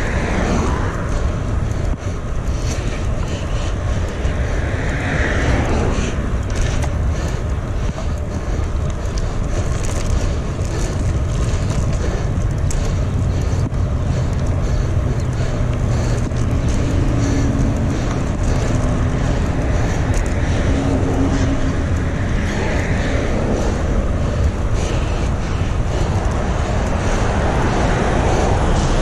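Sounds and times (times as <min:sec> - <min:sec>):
low vehicle engine hum: 0:00.0 - 0:29.0
road noise: 0:00.0 - 0:29.0
wind rushing over microphone: 0:00.0 - 0:29.0.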